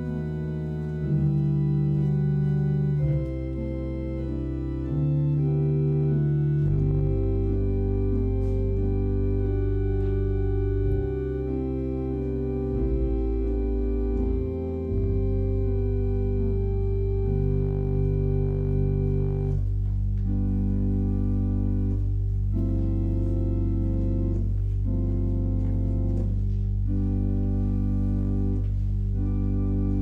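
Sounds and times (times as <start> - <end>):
organ playing slow chords: 0.0 - 30.0.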